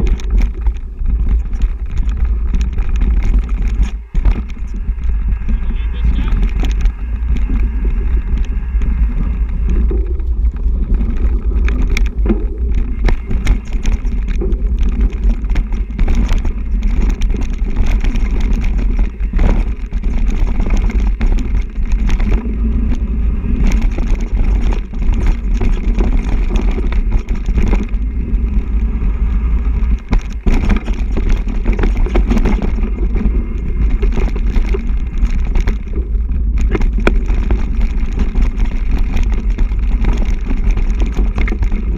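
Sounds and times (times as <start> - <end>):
bike rattling over rough ground: 0.0 - 41.9
rumble of wind and tyres: 0.0 - 41.9.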